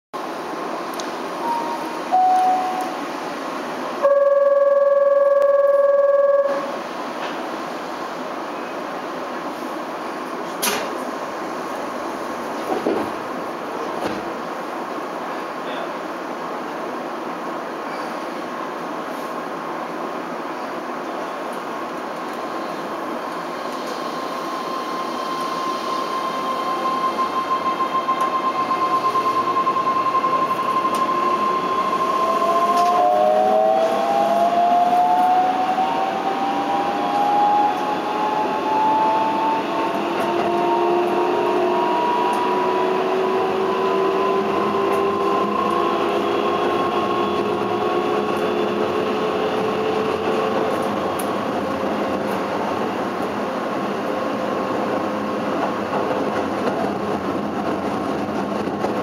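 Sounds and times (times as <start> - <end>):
train inverter whine: 0.2 - 59.0
train rumbling on rails: 0.2 - 59.0.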